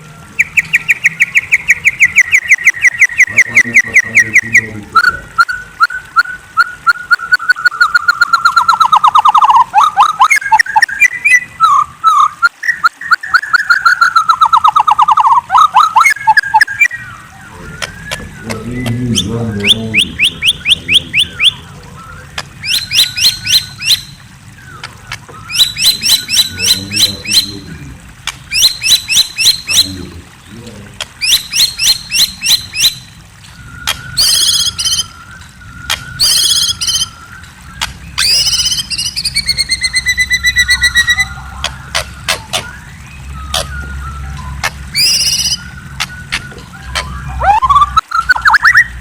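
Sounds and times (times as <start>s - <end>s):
songbird singing high chirps: 0.0s - 49.0s.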